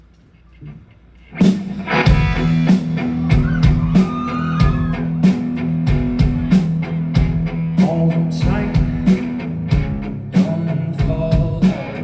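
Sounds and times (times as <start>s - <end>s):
guitar: 0.0s - 12.0s
drum kit beat: 1.4s - 12.0s.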